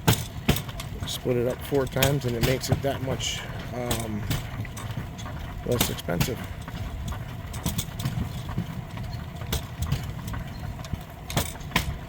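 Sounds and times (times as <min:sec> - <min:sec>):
sharp clicks and clacks: 0:00.0 - 0:12.0
steel wheels rolling on rails: 0:00.0 - 0:12.0.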